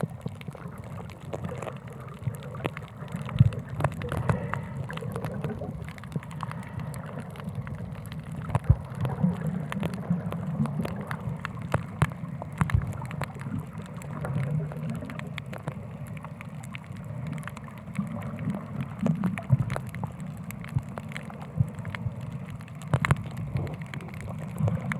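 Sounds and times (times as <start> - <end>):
sharp clicks and crackles: 0.0 - 24.9
water sloshing and gurgling: 0.0 - 24.9.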